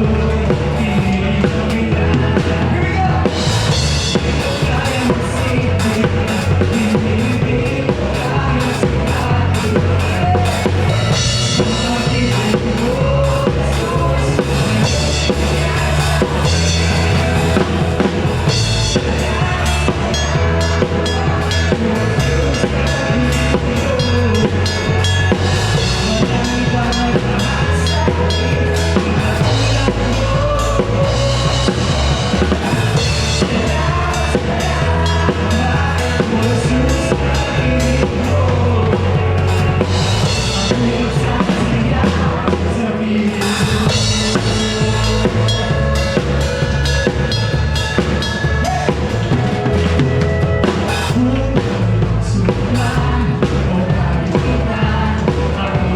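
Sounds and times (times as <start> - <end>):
bass guitar: 0.0 - 55.9
drum kit: 0.0 - 55.9
live band playing: 0.0 - 55.9.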